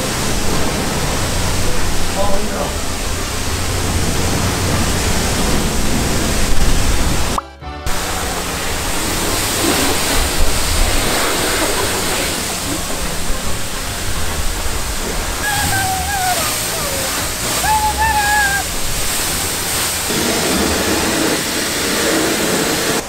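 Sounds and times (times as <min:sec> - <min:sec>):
high-pressure water spray: 0:00.0 - 0:23.0.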